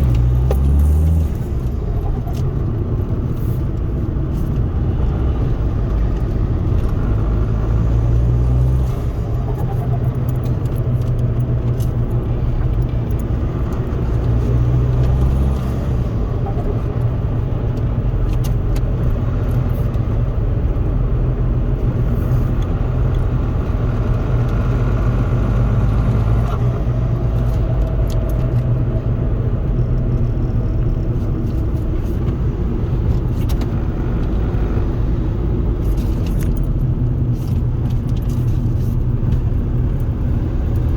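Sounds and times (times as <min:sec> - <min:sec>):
diesel engine drone in car cabin: 0:00.0 - 0:40.9.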